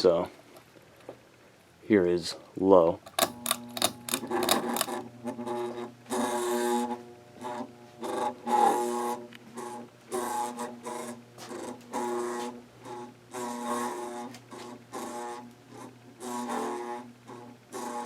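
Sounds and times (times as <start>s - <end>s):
ceiling fan motor buzzing: 3.0s - 18.0s.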